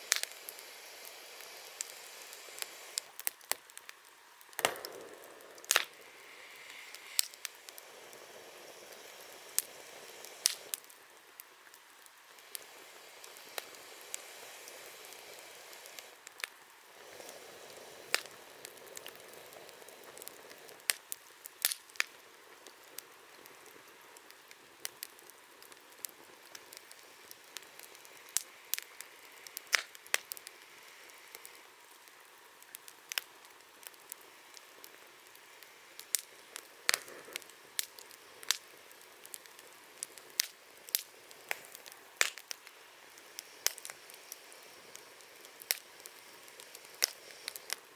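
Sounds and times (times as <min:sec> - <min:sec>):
campfire crackling and hissing: 0:00.0 - 0:47.9.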